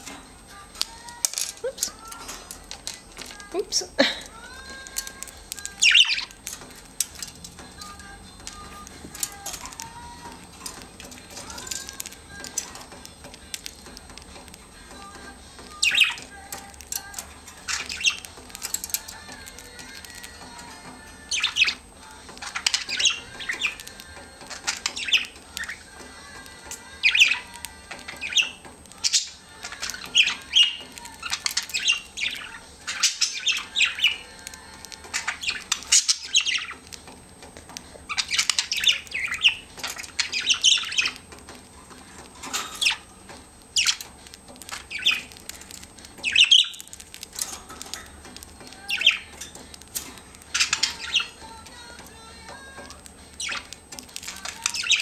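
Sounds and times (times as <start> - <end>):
budgerigars squawking and chirping: 0.0 - 55.0.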